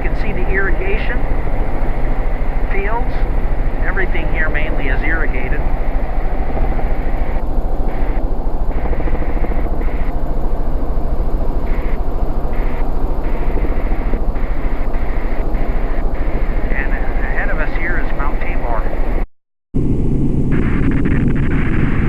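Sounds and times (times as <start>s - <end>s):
helicopter rotor and engine: 0.0s - 19.2s, 19.8s - 22.0s.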